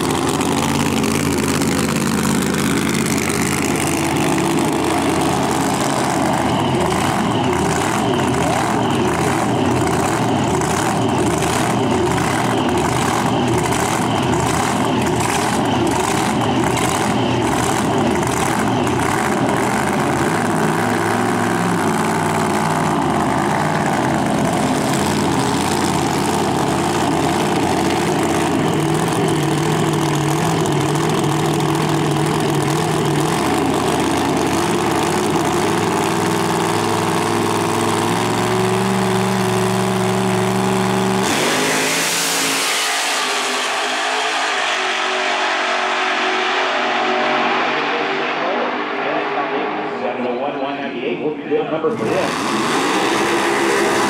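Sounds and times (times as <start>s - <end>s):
drag-race engine idling loudly: 0.0s - 54.0s.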